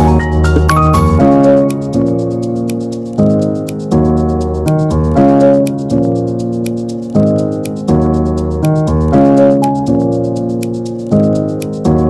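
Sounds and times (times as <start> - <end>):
sustained keyboard chords: 0.0 - 12.0
light high tick: 0.4 - 5.0, 5.6 - 8.9, 9.6 - 11.9.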